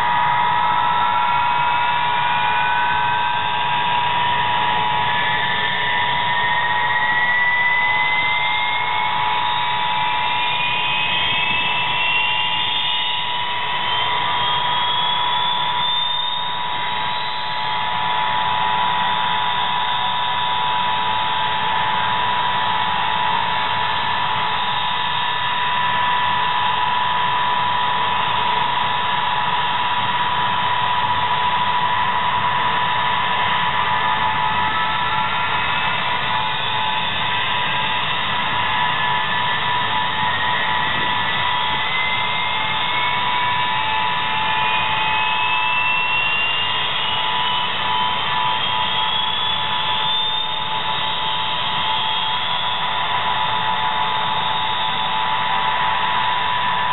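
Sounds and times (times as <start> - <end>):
jet engine whine spooling up: 0.0 - 56.9.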